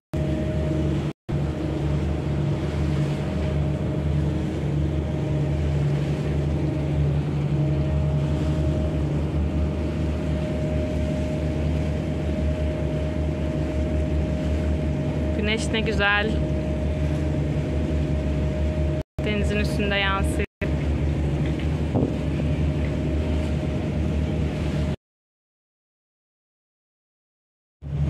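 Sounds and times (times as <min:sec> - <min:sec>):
wind: 0:00.1 - 0:25.0
ferry engine droning: 0:00.2 - 0:25.0.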